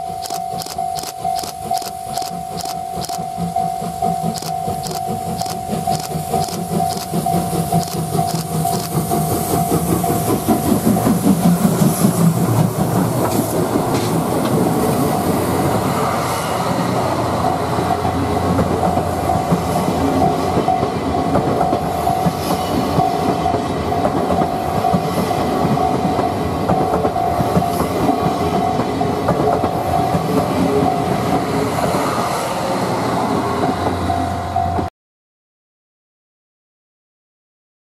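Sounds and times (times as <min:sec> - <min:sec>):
level-crossing warning bell: 0:00.0 - 0:12.4, 0:14.8 - 0:34.9
steam locomotive chuffing: 0:00.0 - 0:34.9
train wheels clickety-clack: 0:00.1 - 0:34.9.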